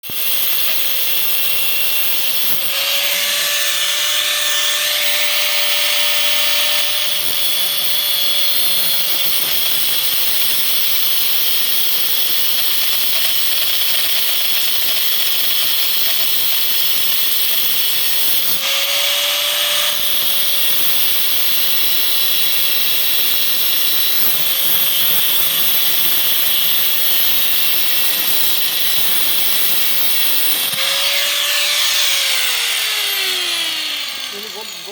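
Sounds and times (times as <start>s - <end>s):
power grinder cutting: 0.0s - 34.9s.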